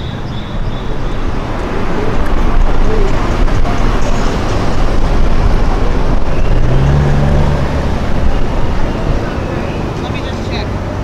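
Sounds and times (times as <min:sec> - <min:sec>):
cars driving by: 0:00.0 - 0:11.0
steady low engine note: 0:00.0 - 0:11.0.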